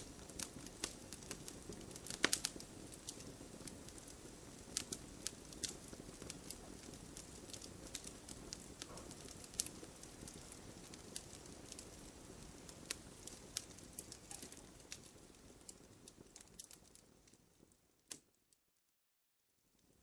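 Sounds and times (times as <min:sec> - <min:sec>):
low rush of flames: 0:00.0 - 0:17.8
bonfire crackling and popping: 0:00.0 - 0:18.6, 0:19.5 - 0:20.0.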